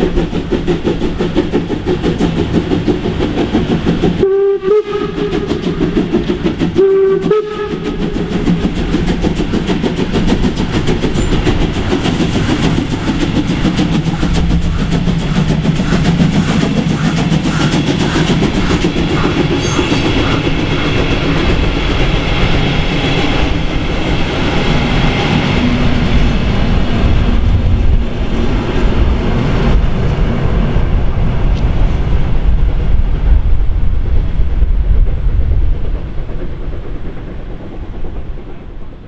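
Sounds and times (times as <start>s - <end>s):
diesel locomotive engine rumbling: 0.0s - 39.0s
train wheels clattering over rails: 0.0s - 39.0s.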